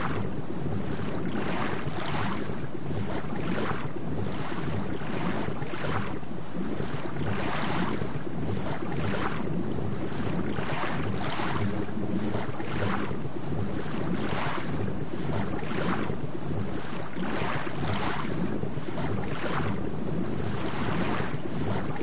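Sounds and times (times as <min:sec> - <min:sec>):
rushing water heard underwater: 0:00.0 - 0:22.0.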